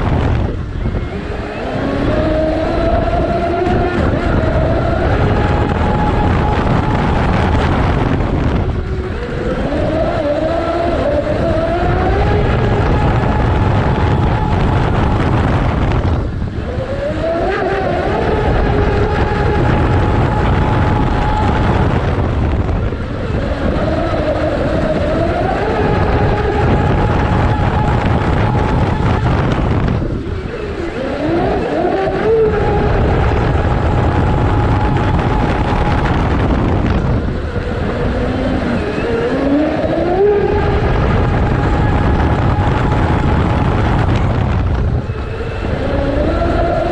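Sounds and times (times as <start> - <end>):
water rushing: 0.0 - 46.9
wind rush: 0.0 - 46.9.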